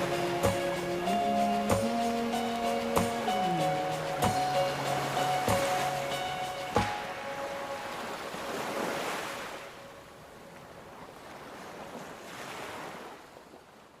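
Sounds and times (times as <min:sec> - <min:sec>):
ocean surf washing in: 0:00.0 - 0:13.3.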